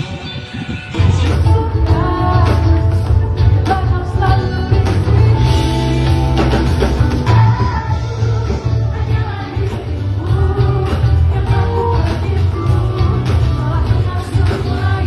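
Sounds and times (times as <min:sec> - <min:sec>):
drums: 0:00.0 - 0:15.0
live pop band: 0:00.0 - 0:15.0
heavy bass line: 0:00.9 - 0:15.0
person singing: 0:00.9 - 0:15.0.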